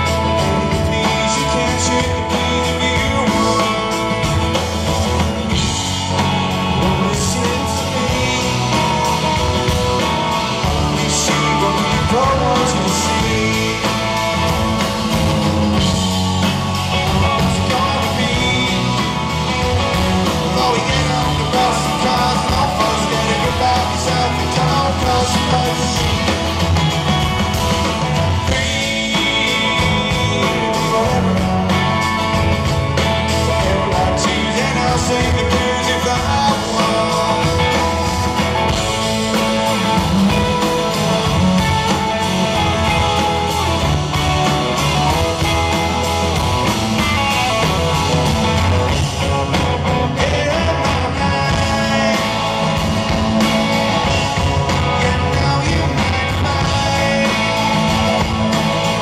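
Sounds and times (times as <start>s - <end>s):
live rock band playing: 0.0s - 59.0s
man singing lead: 0.0s - 59.0s.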